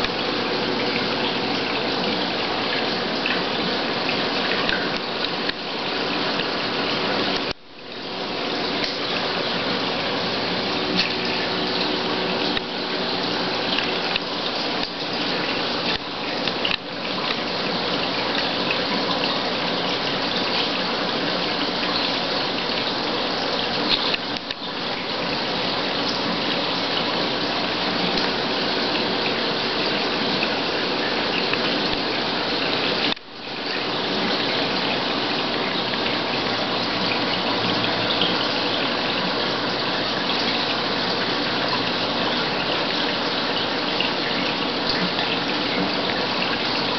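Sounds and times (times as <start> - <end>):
faint steady hum: 0.0 - 46.9
water rushing and splashing: 0.0 - 46.9.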